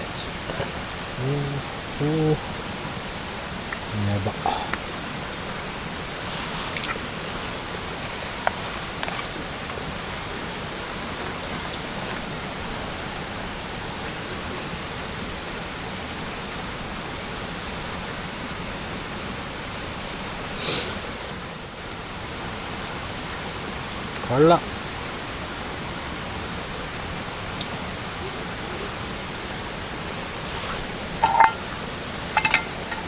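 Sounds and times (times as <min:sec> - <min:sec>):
steady outdoor hiss: 0:00.0 - 0:33.0.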